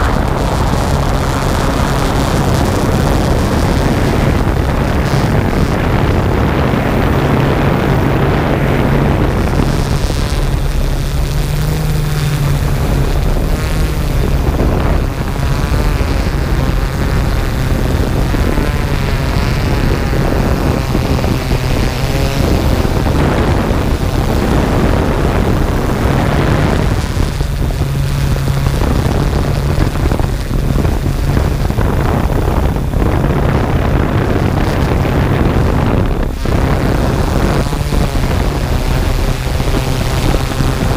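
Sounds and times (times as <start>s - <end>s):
drone motors humming: 0.0s - 40.9s
rushing air noise: 0.0s - 40.9s.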